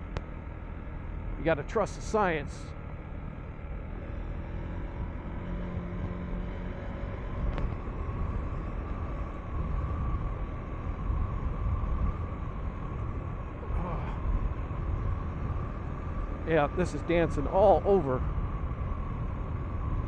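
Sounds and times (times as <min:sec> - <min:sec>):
motorcycle engine running: 0:02.8 - 0:18.8.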